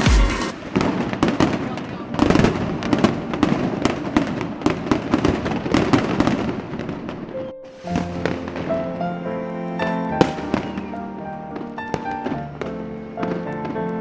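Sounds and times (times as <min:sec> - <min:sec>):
fireworks bangs and crackling: 0:00.0 - 0:14.0
music with held notes: 0:02.1 - 0:06.8, 0:07.4 - 0:14.0.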